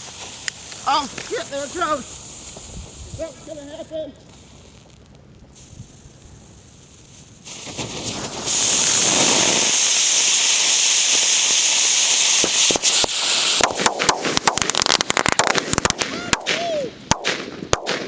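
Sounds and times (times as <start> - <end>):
fireworks hissing: 0.0 - 17.1
fireworks cracking and popping: 0.0 - 18.0.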